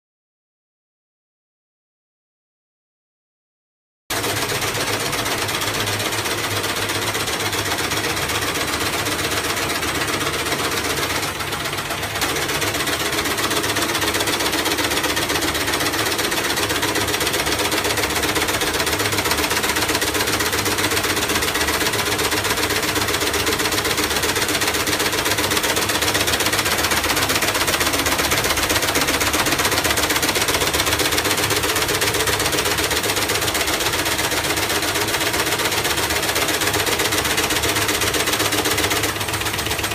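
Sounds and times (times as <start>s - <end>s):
machines clattering: 4.1s - 39.9s.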